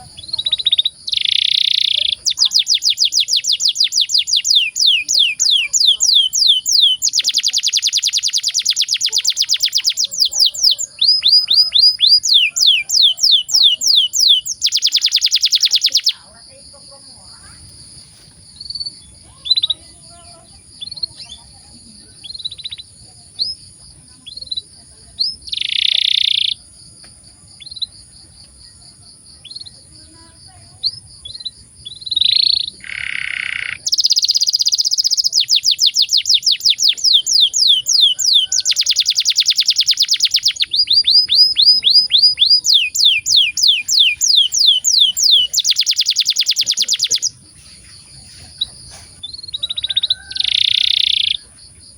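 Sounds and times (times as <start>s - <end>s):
canary singing: 0.0s - 26.8s, 27.5s - 51.9s.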